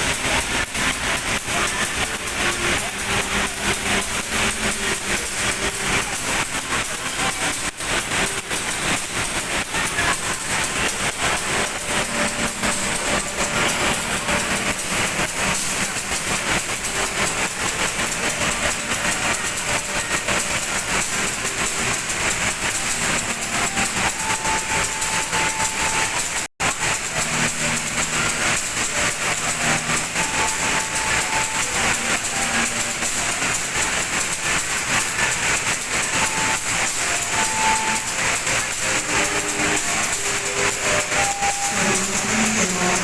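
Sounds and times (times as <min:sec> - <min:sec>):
train rumble from aboard: 0:00.0 - 0:43.0
wheels rattling on rails: 0:00.0 - 0:43.0.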